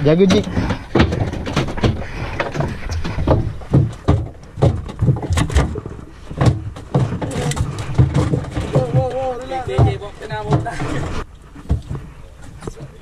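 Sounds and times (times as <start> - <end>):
thumps on boat deck: 0.3 - 10.8.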